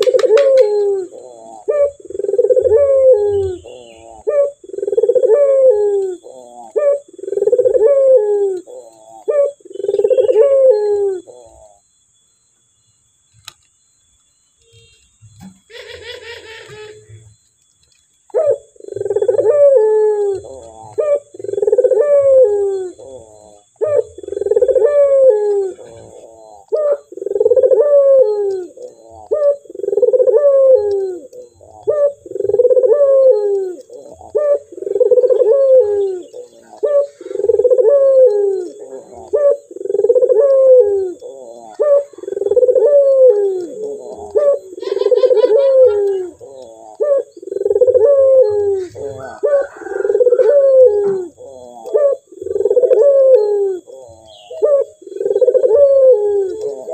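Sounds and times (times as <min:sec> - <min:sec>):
dove cooing: 0:00.0 - 0:11.9, 0:15.4 - 0:17.4, 0:18.3 - 0:56.9.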